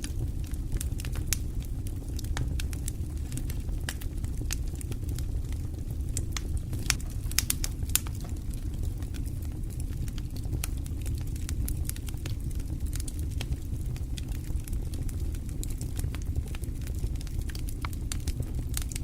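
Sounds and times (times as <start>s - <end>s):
fire pops and snaps: 0.0s - 19.0s
low rumble of flames: 0.0s - 19.0s.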